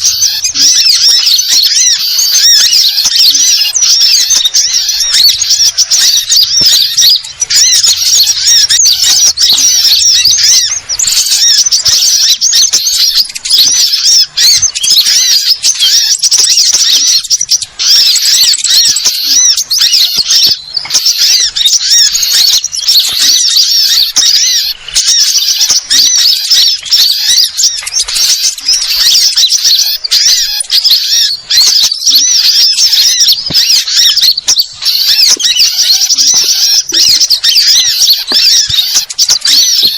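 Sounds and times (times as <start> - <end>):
sunbirds chattering: 0.0 - 39.9.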